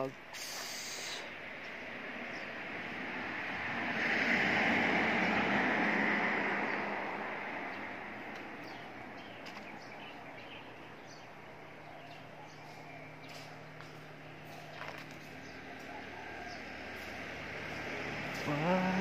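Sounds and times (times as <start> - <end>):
road vehicle passing: 0.1 - 19.0.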